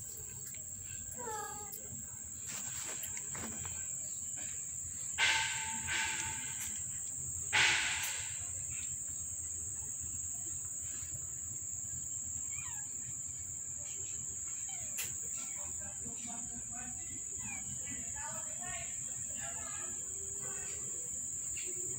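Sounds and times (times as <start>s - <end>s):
high-pitched insect chorus: 0.0s - 21.9s.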